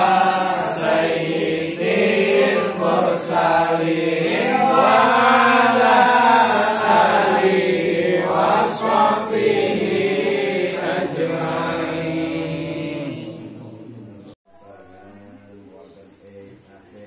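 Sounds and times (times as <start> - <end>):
men chanting in unison: 0.0 - 14.4.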